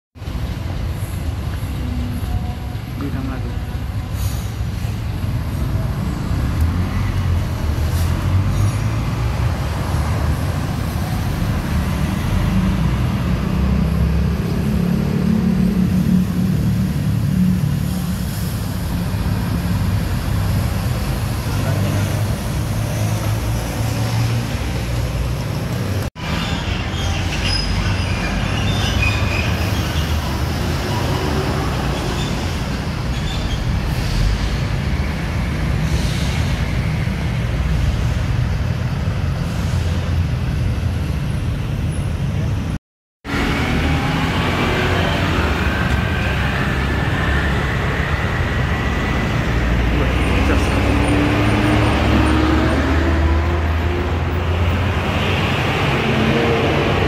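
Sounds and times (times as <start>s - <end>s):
diesel bus passing by: 0.2s - 57.0s.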